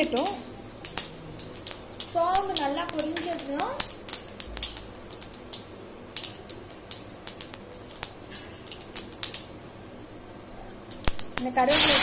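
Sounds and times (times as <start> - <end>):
seeds popping in hot oil: 0.0 - 9.8, 10.8 - 12.0.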